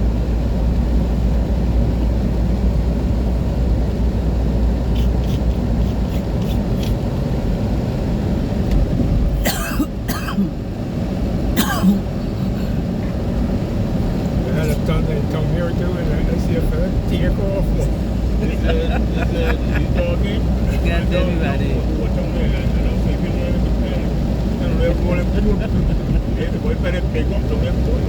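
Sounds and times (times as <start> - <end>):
car driving on wet road: 0.0 - 28.0.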